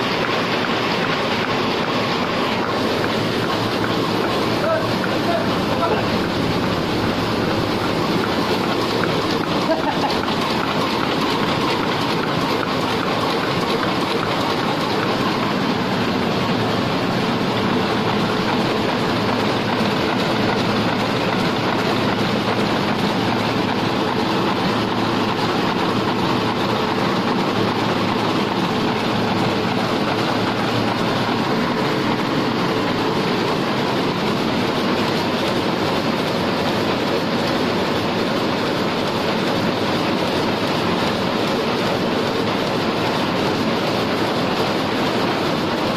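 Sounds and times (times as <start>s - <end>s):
printing press running: 0.0s - 45.9s.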